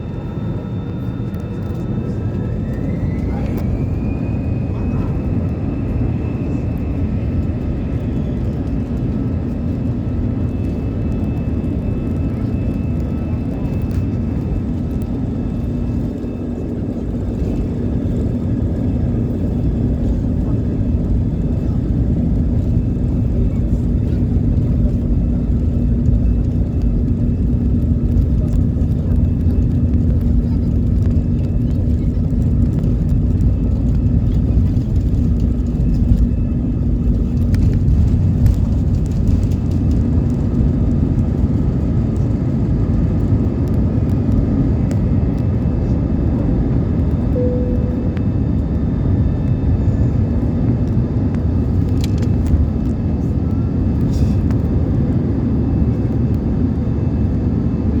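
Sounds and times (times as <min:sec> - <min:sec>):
airliner engines rumbling: 0:00.0 - 0:58.0.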